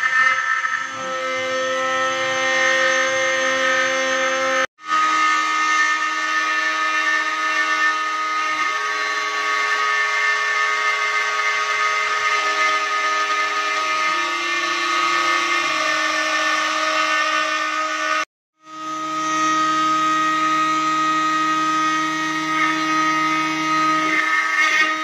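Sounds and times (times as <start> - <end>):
router spindle cutting wood: 0.0 - 25.0.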